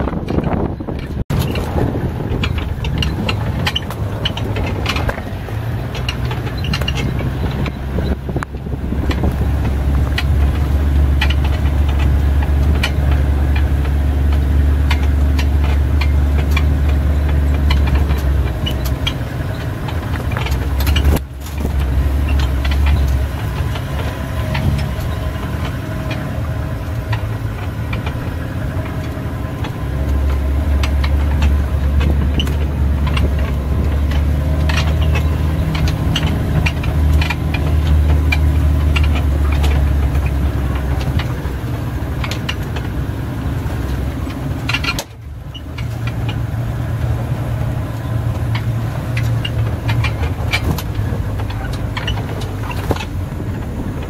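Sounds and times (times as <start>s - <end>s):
knocks and rattles: 0.0s - 54.0s
vehicle engine drone: 0.0s - 54.0s.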